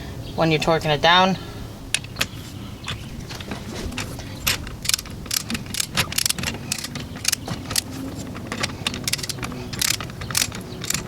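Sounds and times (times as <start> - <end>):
steady low hum: 0.0 - 11.0
wrench clicking on lug nuts: 1.9 - 11.0.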